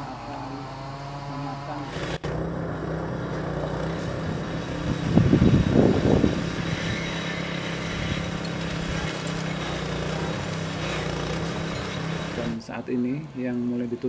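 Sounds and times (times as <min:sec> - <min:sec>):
diesel engine running: 0:00.0 - 0:13.4.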